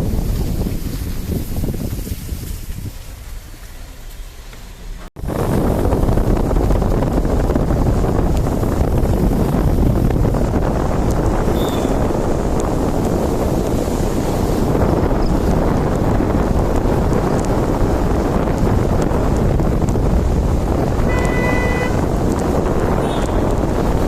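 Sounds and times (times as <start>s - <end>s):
moving car rumble: 0.0s - 24.0s
wind buffeting microphone: 0.0s - 24.0s.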